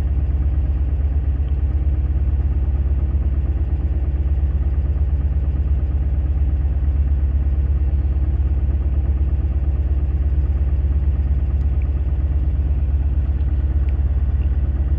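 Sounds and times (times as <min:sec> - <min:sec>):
boat engine running at low revs: 0:00.0 - 0:14.9.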